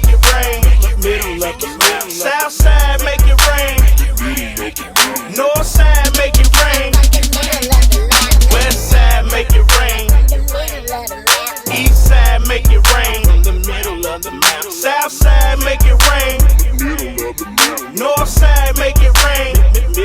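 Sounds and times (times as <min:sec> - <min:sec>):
deep bass kicks: 0:00.0 - 0:01.7, 0:02.6 - 0:05.0, 0:05.6 - 0:11.1, 0:11.7 - 0:14.3, 0:15.2 - 0:17.6, 0:18.3 - 0:20.0
crisp hi-hats: 0:00.0 - 0:20.0
hip hop instrumental beat: 0:00.0 - 0:20.0
wavering high melody: 0:00.8 - 0:18.9.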